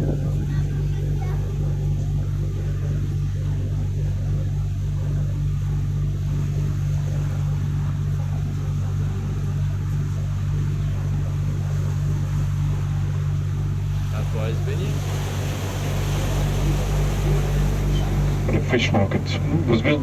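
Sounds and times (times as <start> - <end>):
boat motor droning: 0.0 - 20.0.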